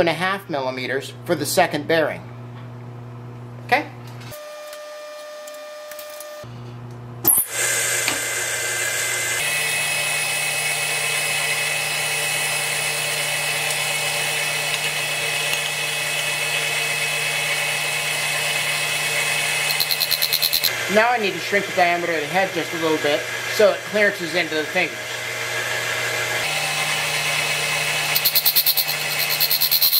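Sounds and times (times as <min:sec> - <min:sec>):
grinder grinding with high whine: 0:04.2 - 0:29.9.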